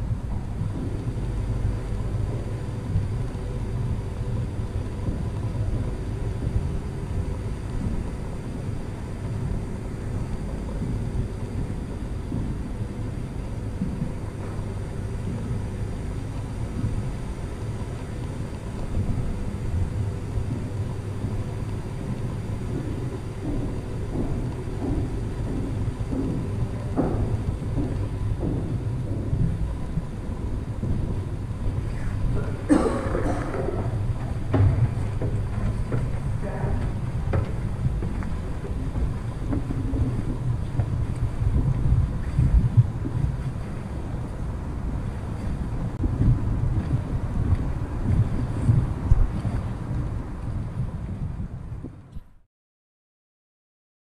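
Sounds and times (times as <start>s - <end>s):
low rumble: 0.0s - 52.3s
faint constant hum: 0.0s - 52.4s.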